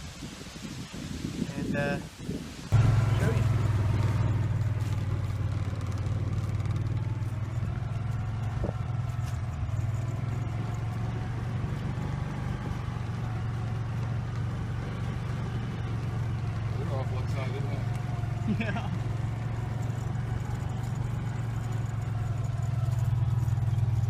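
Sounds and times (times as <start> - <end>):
road or wind noise: 0.0 - 24.0
vehicle engine humming: 2.7 - 24.0.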